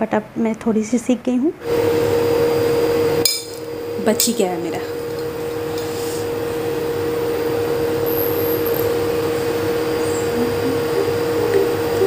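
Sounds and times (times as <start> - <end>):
cooling fan whirring: 0.0 - 12.0
hum-like whine: 1.7 - 12.0.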